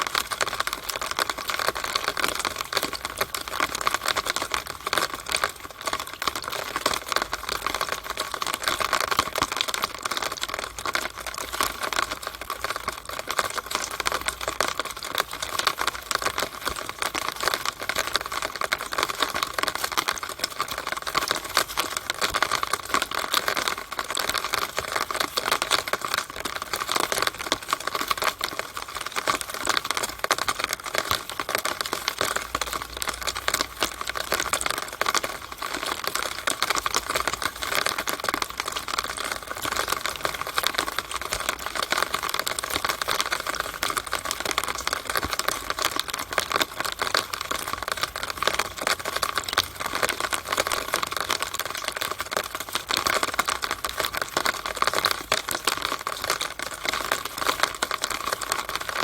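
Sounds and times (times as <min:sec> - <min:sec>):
rainwater running down a downspout: 0:00.0 - 0:59.0.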